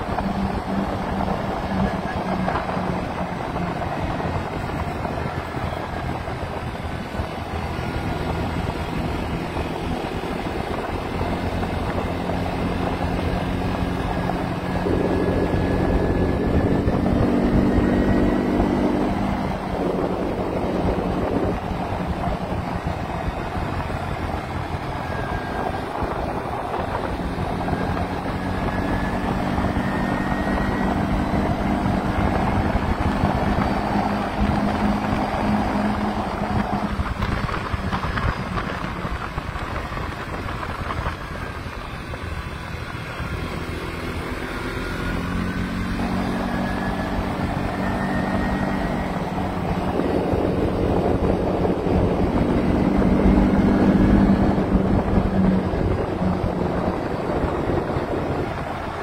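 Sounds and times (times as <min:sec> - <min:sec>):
quad bike engine running: 0:00.0 - 0:59.0
wind buffeting microphone: 0:00.0 - 0:59.0.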